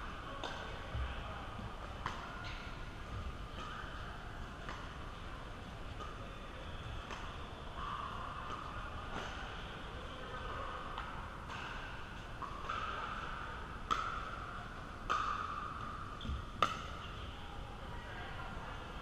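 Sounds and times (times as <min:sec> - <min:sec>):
reverberant hall hum: 0:00.0 - 0:19.0.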